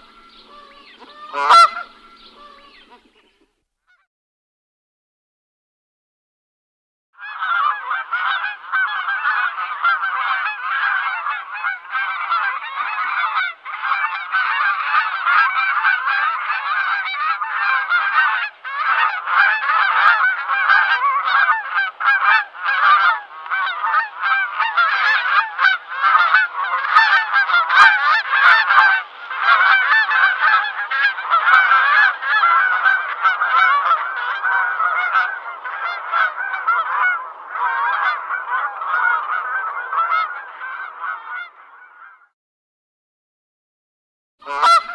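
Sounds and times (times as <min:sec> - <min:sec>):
geese honking: 0:00.0 - 0:04.1, 0:07.2 - 0:42.3, 0:44.4 - 0:44.9.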